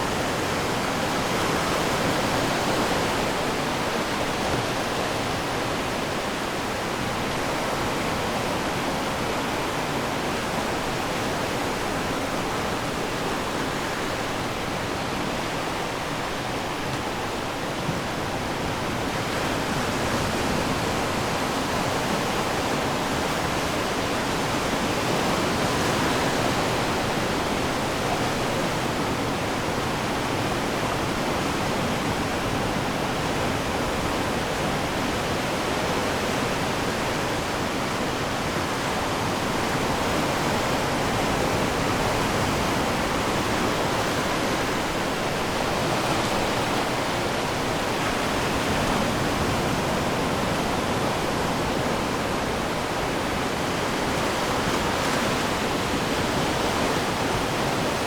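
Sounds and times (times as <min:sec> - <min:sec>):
ocean waves on shore: 0:00.0 - 0:58.0.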